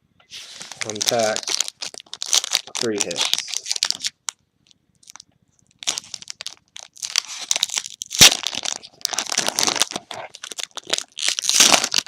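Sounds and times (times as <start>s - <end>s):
wrapper crinkling and tearing: 0.4s - 4.4s, 5.0s - 12.0s.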